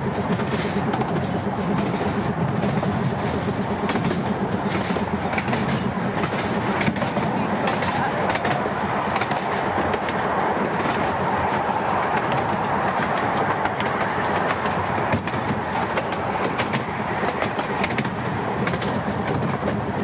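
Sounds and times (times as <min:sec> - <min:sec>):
rail joint clicks: 0:00.0 - 0:20.0
rumble of train wheels: 0:00.0 - 0:20.0.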